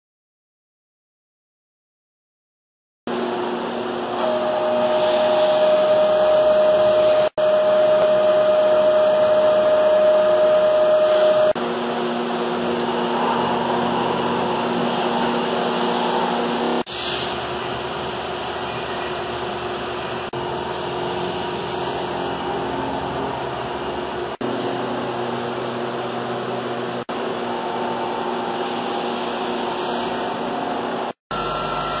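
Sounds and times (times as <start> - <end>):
lathe machine hum and whine: 3.1 - 32.0.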